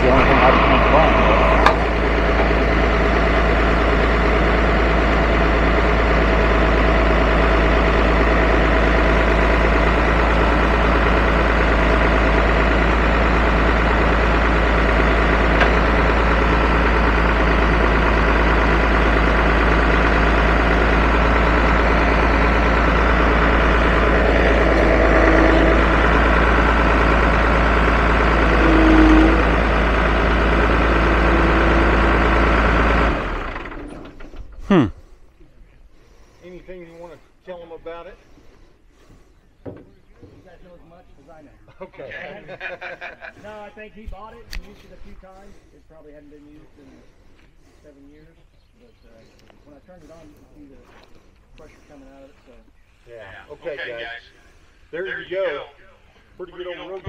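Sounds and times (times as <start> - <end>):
vehicle engine idling: 0.0 - 41.8, 42.4 - 57.0.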